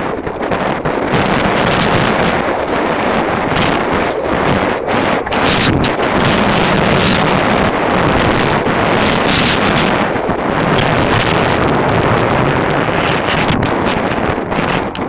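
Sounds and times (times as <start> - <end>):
bike tyres rolling over gravel: 0.0 - 15.0
wind buffeting microphone: 0.0 - 15.0.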